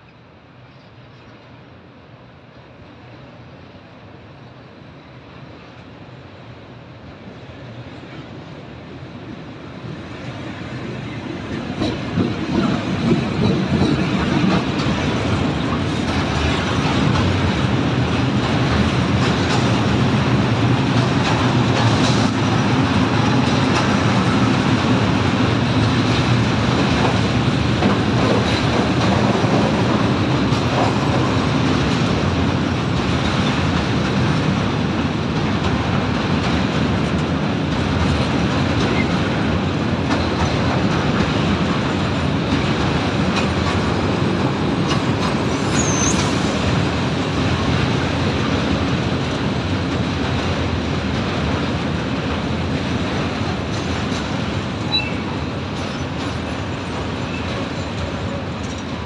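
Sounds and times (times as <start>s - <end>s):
electric locomotive passing: 0.0s - 59.0s
wheels clicking over rail joints: 11.5s - 59.0s.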